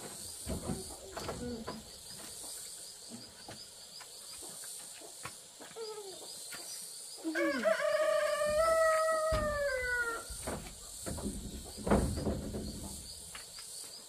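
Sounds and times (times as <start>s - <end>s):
constant high hiss: 0.0s - 14.0s
insects chirping: 0.0s - 14.0s.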